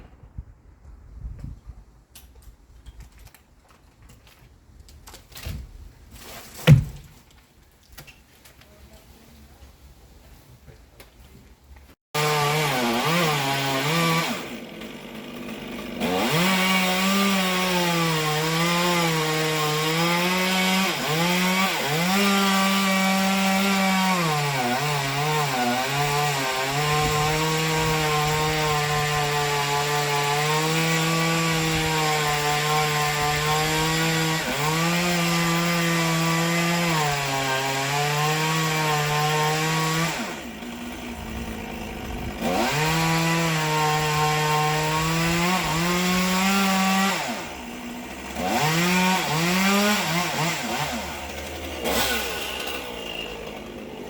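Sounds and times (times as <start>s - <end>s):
chainsaw cutting wood: 5.1s - 7.2s, 12.2s - 54.0s.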